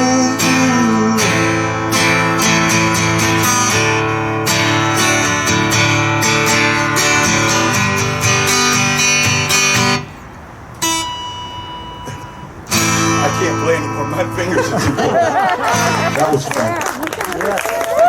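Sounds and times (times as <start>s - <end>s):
guitar chord ringing: 0.0s - 16.3s
acoustic guitar strumming: 0.0s - 16.8s.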